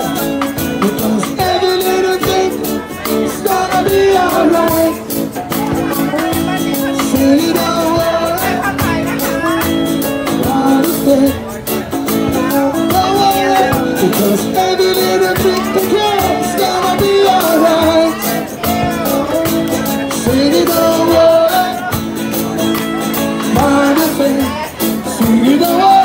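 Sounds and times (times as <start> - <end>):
person singing through amplifier: 0.0 - 26.0
reggae band playing: 0.0 - 26.0.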